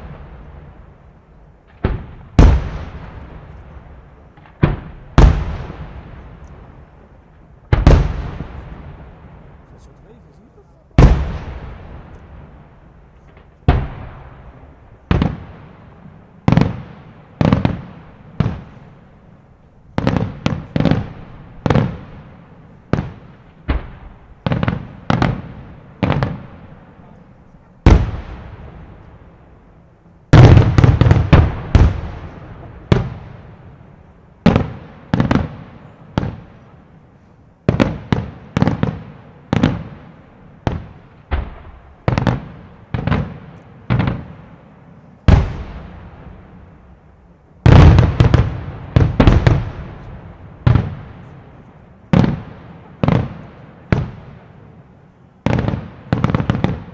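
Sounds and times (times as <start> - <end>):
firework booms with echo: 0.0 - 19.3, 19.9 - 29.7, 30.3 - 36.8, 37.6 - 54.7, 55.4 - 56.9.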